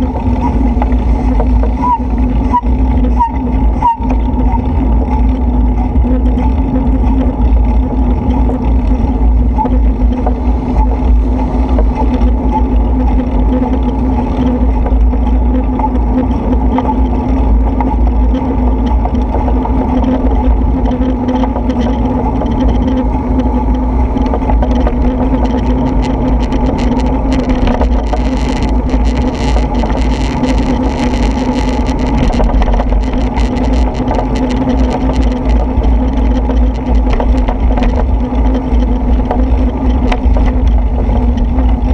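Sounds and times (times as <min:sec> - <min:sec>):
vehicle droning on wet road: 0:00.0 - 0:41.9
wind rumble on microphone: 0:00.0 - 0:41.9.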